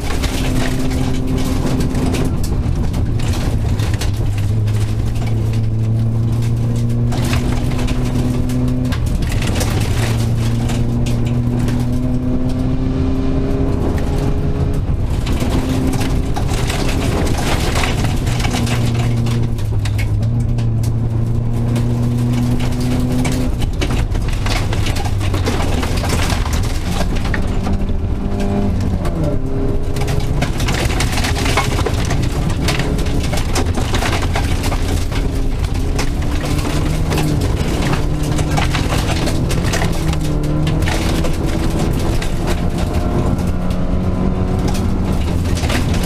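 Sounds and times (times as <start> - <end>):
gravel crackling under car: 0.0 - 46.0
rally car engine revving: 0.0 - 46.0.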